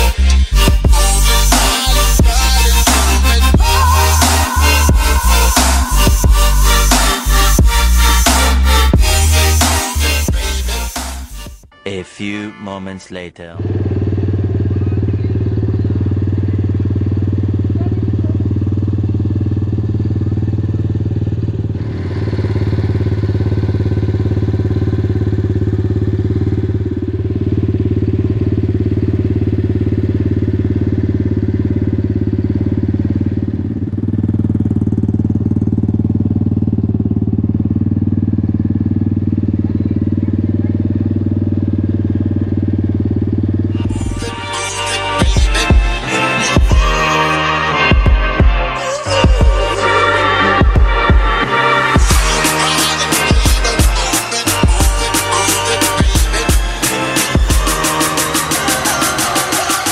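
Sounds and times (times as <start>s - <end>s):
motorcycle engine idling: 0.0s - 11.4s, 13.6s - 59.9s.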